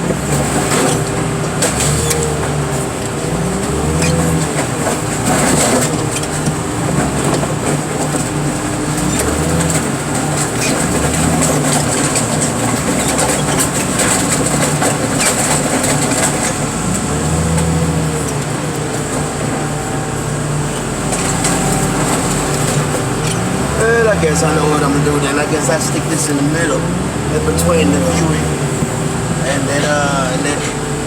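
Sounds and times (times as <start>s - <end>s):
heavy machine engine under load: 0.0s - 31.0s.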